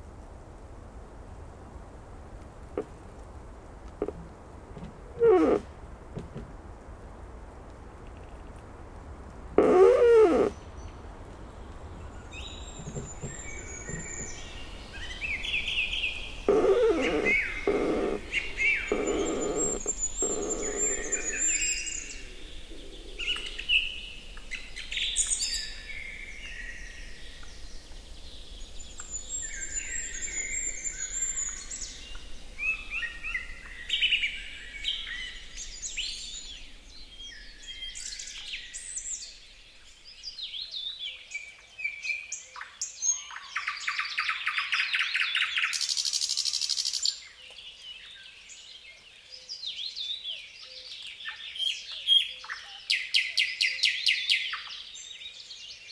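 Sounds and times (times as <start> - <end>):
songbirds singing and chirping: 7.6 - 55.9.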